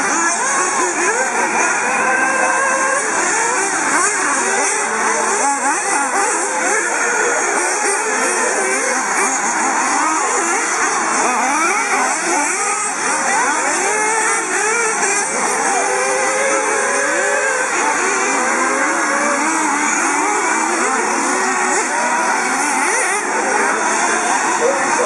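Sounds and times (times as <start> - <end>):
small engines revving whines: 0.0 - 25.0.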